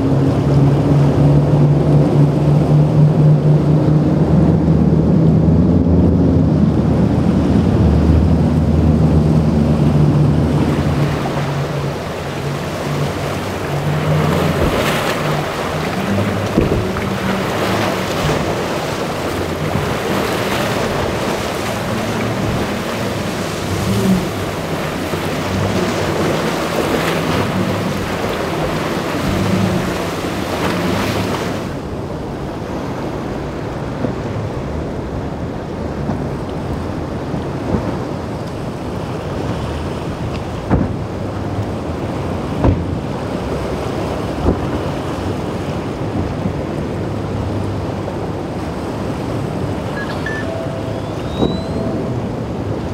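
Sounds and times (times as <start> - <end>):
boat engines running: 0.0 - 52.9
waves crashing: 0.0 - 52.9.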